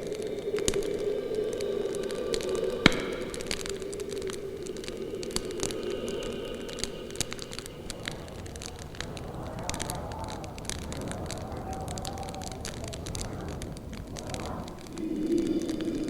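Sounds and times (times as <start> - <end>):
branches crackling in a fire: 0.0 - 16.0
low rumble of fire: 0.0 - 16.0.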